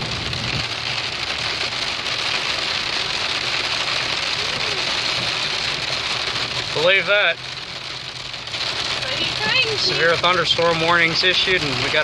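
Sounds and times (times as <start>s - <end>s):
hail on car roof: 0.0s - 12.0s.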